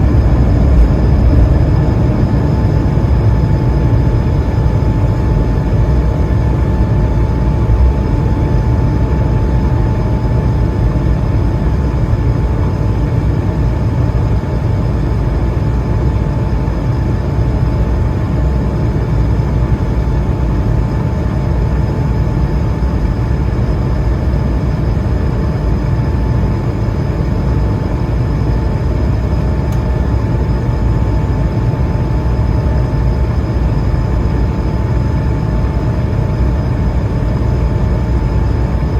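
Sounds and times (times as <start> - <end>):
jet engine rumble and airflow: 0.0 - 38.9
jet engine whine: 0.0 - 38.9.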